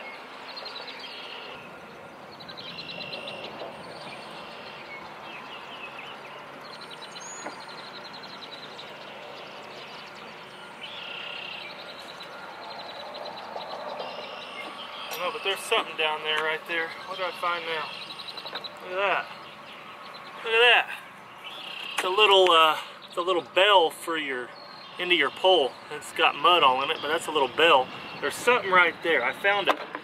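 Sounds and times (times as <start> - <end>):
birds singing trills: 0.0 - 29.7.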